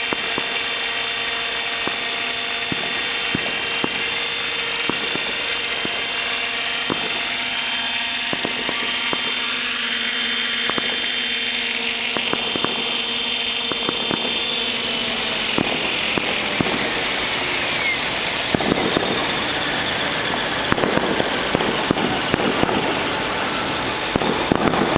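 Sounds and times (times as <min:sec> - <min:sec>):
rc helicopter rotor whine: 0:00.0 - 0:24.9.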